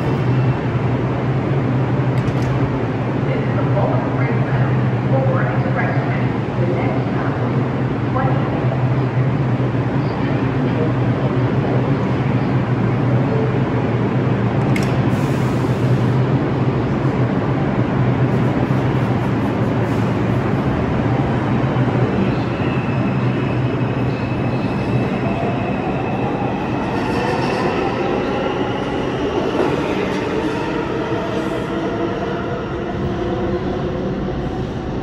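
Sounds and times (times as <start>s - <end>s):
subway train wheel rumble: 0.0s - 35.0s.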